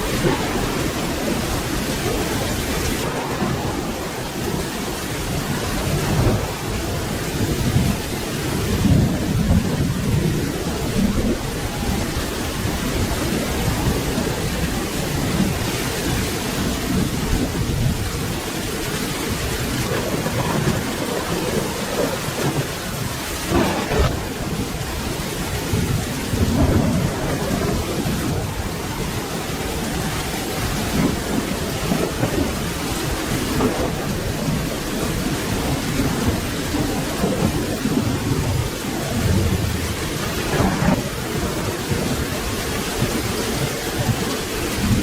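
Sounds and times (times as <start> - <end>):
rumbling thunder: 0.0 - 45.0
steady rain: 0.0 - 45.0.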